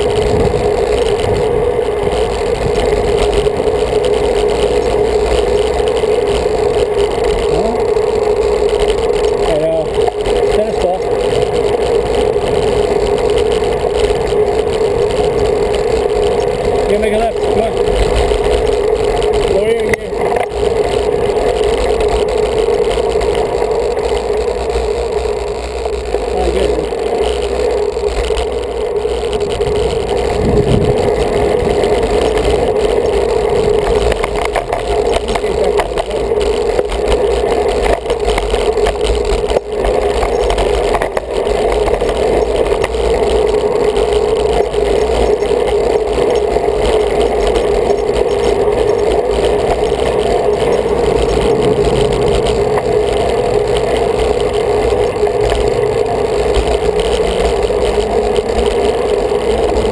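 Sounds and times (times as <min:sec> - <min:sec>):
droning hum: 0:00.0 - 0:59.9
road noise: 0:00.0 - 0:59.9
wind noise: 0:00.0 - 0:59.9.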